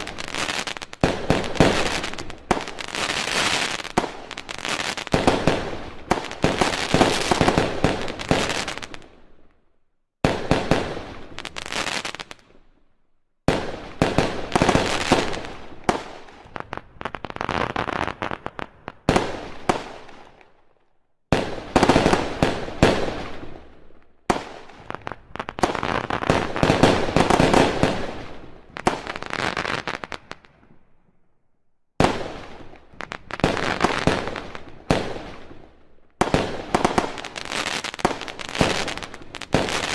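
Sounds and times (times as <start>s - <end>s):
fireworks cracking and banging: 0.0s - 9.2s, 10.3s - 12.5s, 13.5s - 20.2s, 24.3s - 30.6s, 32.0s - 39.9s.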